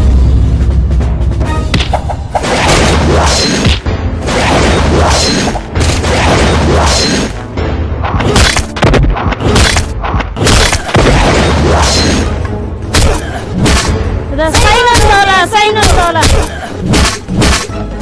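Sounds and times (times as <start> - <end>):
dramatic action music: 0.0 - 18.0.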